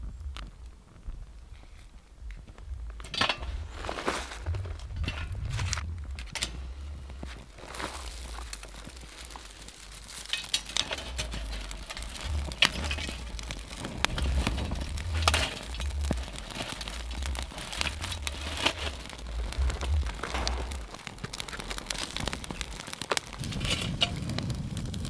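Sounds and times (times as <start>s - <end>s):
dry twigs crackling and snapping: 0.0s - 25.0s
low rumble: 0.0s - 25.0s.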